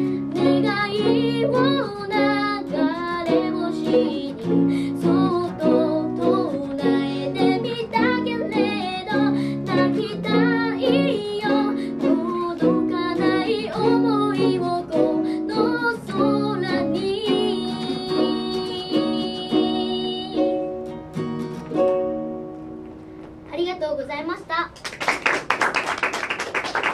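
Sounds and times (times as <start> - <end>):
plucked string chords: 0.0 - 23.4.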